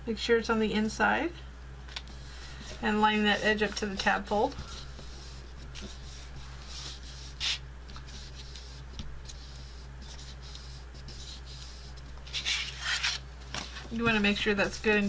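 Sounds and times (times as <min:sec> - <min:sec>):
paper rustling and rubbing: 0:01.9 - 0:15.0
paper scrape: 0:02.1 - 0:15.0.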